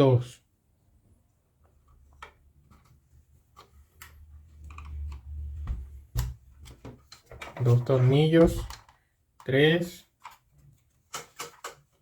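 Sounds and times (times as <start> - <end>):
hands handling plastic parts: 1.6 - 12.0.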